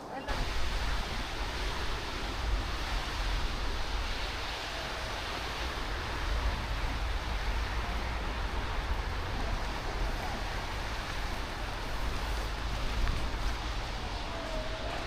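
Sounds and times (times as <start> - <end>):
even hiss: 0.1 - 15.0.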